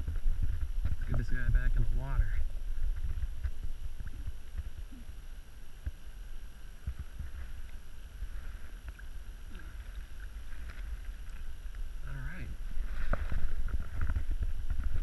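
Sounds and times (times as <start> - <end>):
water sloshing softly: 0.0 - 15.0
wind rumble on microphone: 0.0 - 15.0.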